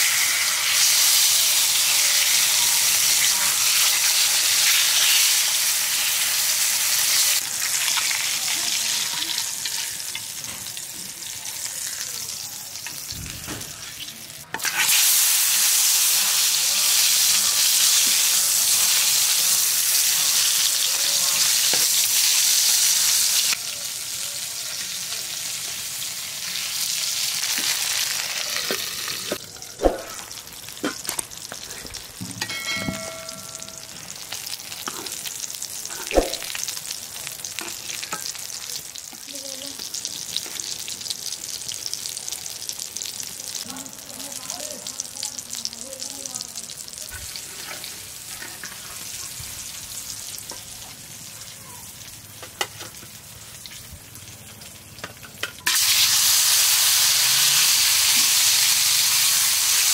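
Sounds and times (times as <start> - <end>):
fish sizzling in hot oil: 0.0 - 59.9.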